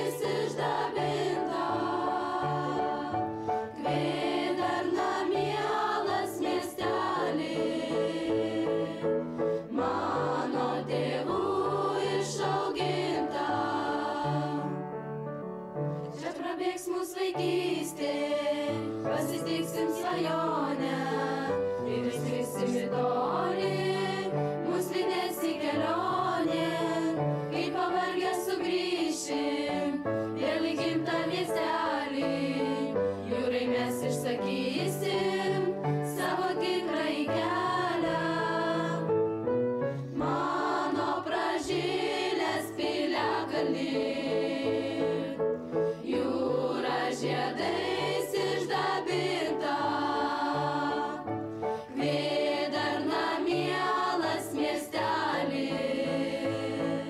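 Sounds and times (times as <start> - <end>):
girls' choir singing: 0.0 - 14.9, 16.2 - 39.3, 40.1 - 57.0.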